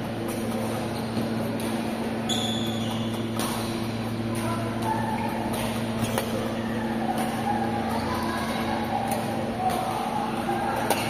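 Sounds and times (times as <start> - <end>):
steady low hum: 0.0 - 11.0
rackets hitting shuttlecock: 0.2 - 7.7, 9.0 - 11.0.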